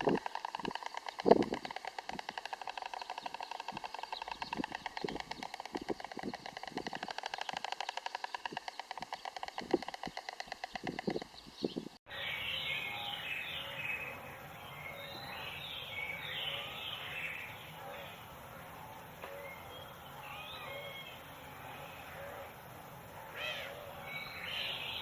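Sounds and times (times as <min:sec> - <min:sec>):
outdoor background noise: 0:00.0 - 0:25.0
herons calling and chattering: 0:00.3 - 0:25.0.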